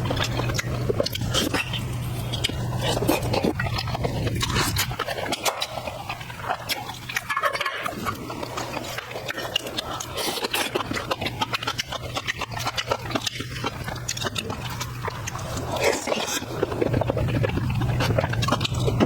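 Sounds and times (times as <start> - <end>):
person chewing with smacking: 0.0 - 19.0
small irregular clicks: 0.0 - 19.0.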